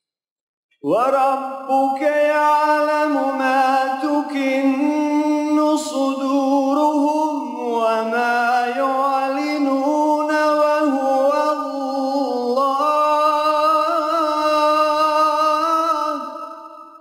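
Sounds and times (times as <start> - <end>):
man reciting melodically: 0.8 - 17.0.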